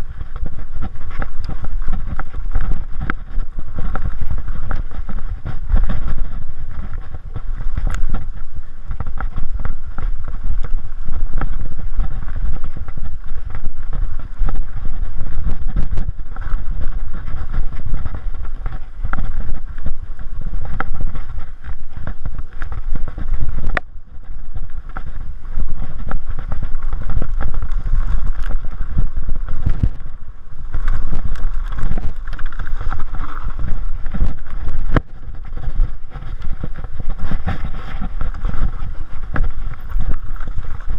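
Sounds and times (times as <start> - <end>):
bike rattling and clattering: 0.0 - 40.9
tyre rumble: 0.0 - 40.9
wind buffeting on microphone: 0.0 - 40.9.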